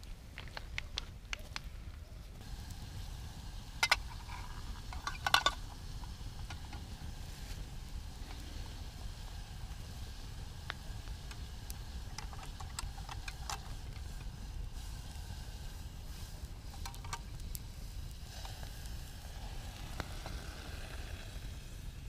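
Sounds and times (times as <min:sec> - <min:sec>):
campfire crackling and popping: 0:00.0 - 0:22.0
campfire hiss: 0:00.0 - 0:22.0
low steady rumble: 0:02.4 - 0:22.0.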